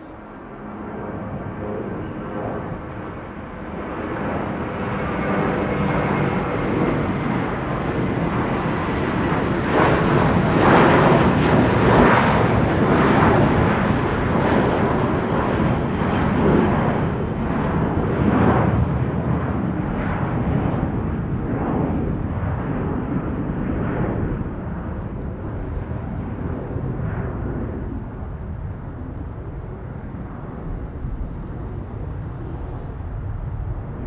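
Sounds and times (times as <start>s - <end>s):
faint engine whine: 0.0s - 8.6s, 9.4s - 34.0s
airplane engine roar: 0.0s - 34.0s.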